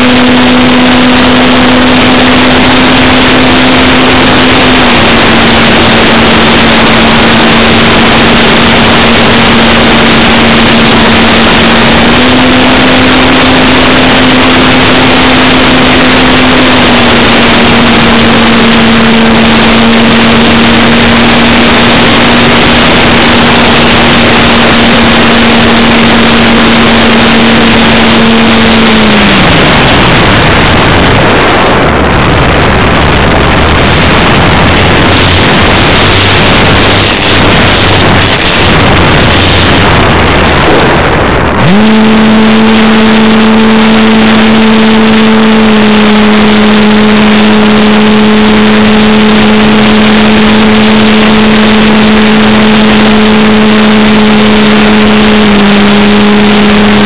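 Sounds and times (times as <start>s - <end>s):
electric motor and propeller humming: 0.0s - 57.0s
wind rushing on microphone: 0.0s - 57.0s.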